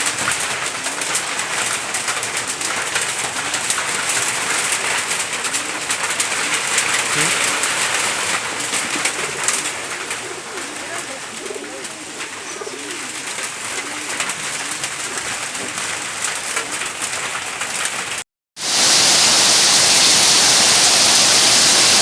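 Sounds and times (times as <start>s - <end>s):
doves cooing: 0.0s - 18.2s
steady rain pattering: 0.0s - 22.0s.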